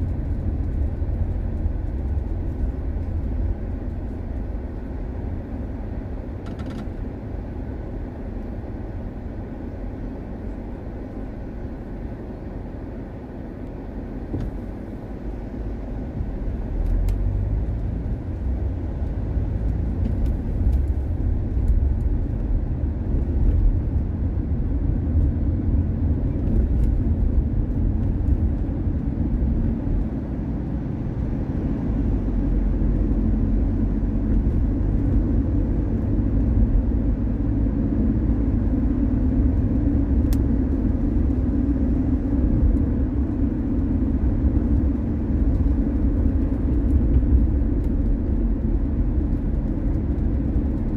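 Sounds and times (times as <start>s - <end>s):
car tyres and engine rumble: 0.0s - 50.9s.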